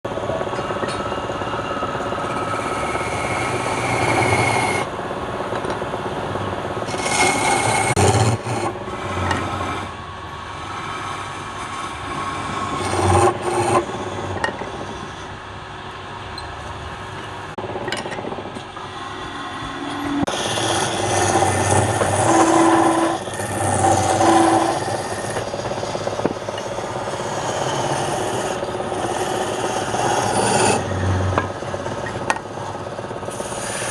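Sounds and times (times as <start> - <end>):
tool scraping spinning wood: 0.1 - 4.9, 6.8 - 15.4, 17.6 - 33.9
wood lathe motor hum: 0.1 - 5.8, 6.8 - 15.5, 18.4 - 33.9.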